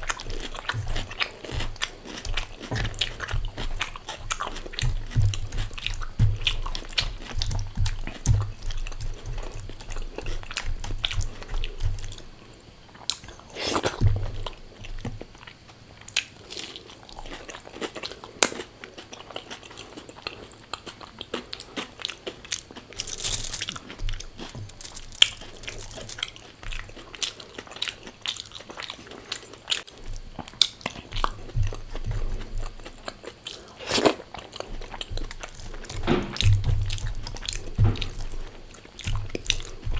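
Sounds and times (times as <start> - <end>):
crunching crisp fried food: 0.0 - 39.9.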